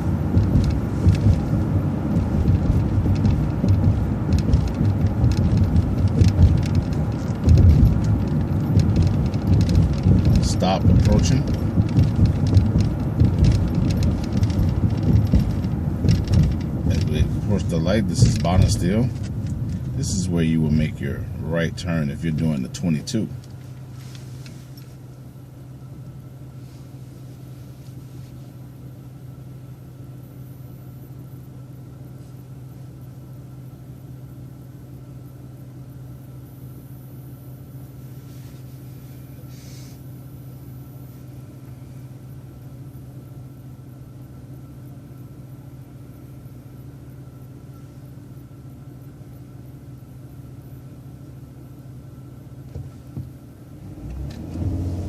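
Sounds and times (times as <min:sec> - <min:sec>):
bus engine idling: 0:00.0 - 0:53.8.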